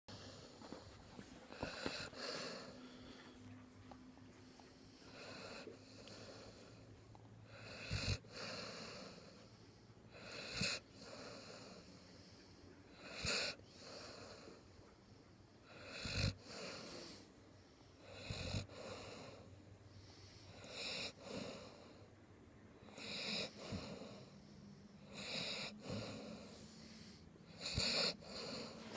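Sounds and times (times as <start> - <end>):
dog snoring: 0.1 - 3.6, 4.4 - 17.3, 17.9 - 22.2, 22.8 - 28.9.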